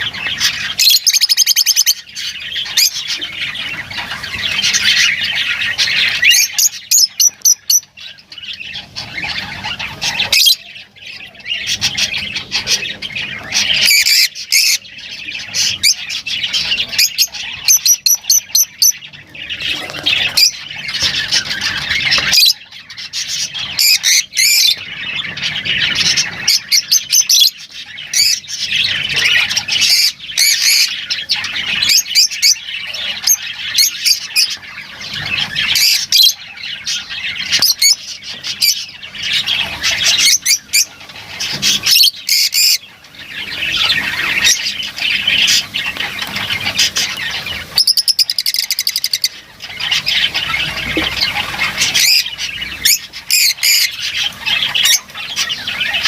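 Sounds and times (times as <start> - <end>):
lovebirds chattering and squawking: 0.0 - 56.0.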